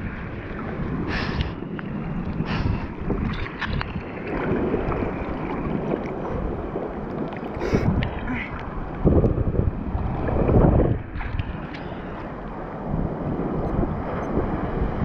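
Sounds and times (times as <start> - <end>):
sea water sloshing and lapping: 0.0 - 15.0
wind noise on microphone: 0.0 - 15.0.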